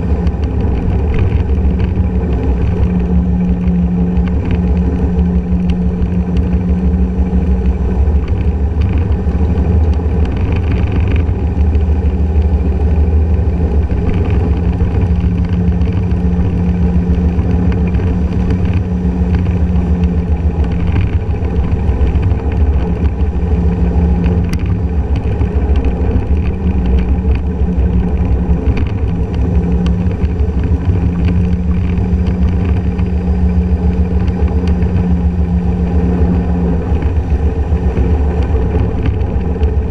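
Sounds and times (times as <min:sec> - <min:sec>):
scooter engine cruising: 0:00.0 - 0:39.9
wind rumble on microphone: 0:00.0 - 0:39.9.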